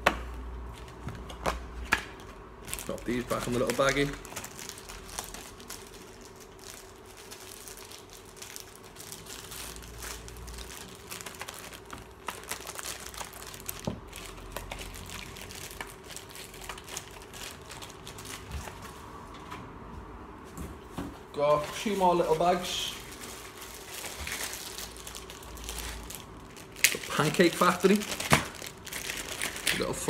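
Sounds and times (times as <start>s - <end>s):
plastic bag crinkling: 2.6s - 19.0s, 21.6s - 30.0s.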